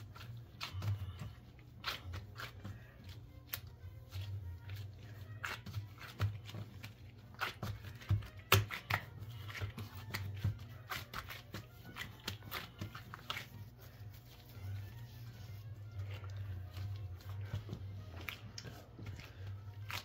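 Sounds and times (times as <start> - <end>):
dough slapping and crackling: 0.0 - 20.0
low steady hum: 0.0 - 20.0.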